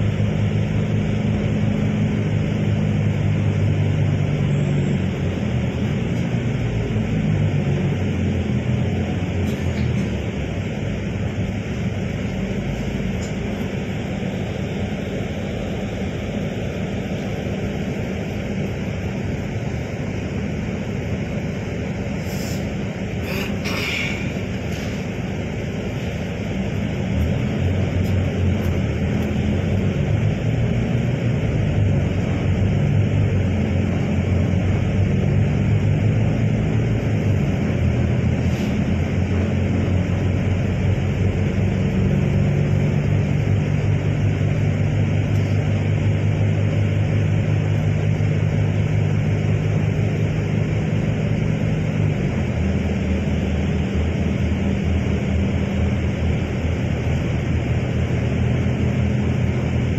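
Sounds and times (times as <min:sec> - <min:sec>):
road noise: 0:00.0 - 0:59.9
vehicle engine hum: 0:00.0 - 0:59.9.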